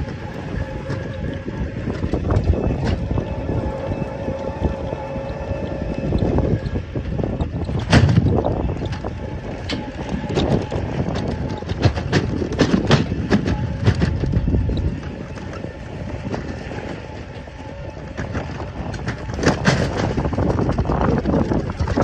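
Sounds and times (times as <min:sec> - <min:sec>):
low rumble: 0:00.0 - 0:22.0
vehicle rattling over rough track: 0:00.0 - 0:22.0.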